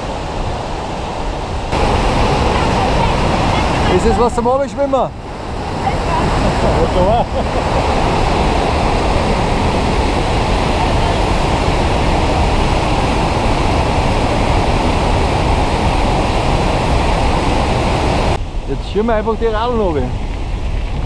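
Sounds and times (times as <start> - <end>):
waterfall roaring: 0.0 - 18.7.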